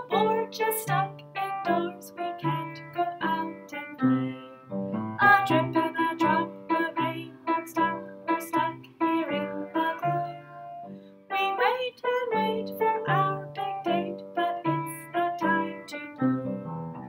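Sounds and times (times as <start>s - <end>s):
woman singing: 0.0s - 4.4s, 5.2s - 16.4s
upright piano chords: 0.0s - 17.0s.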